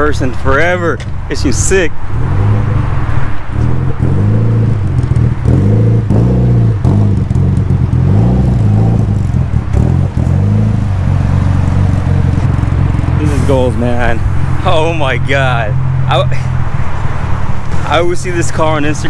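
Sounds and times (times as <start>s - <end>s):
car engine running at low revs: 0.2s - 19.0s.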